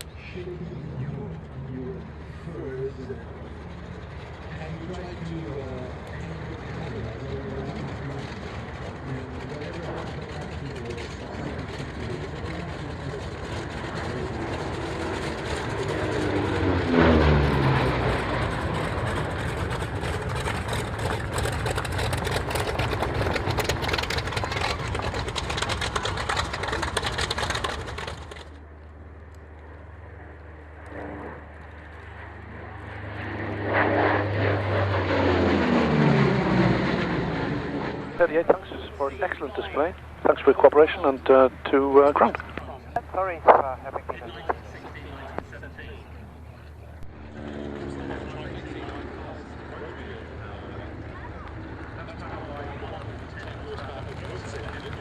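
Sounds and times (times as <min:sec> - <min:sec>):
propeller plane flying past: 0:00.0 - 0:55.0.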